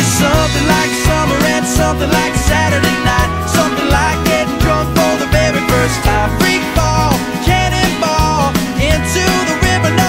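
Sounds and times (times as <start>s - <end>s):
upbeat country music: 0.0s - 10.0s.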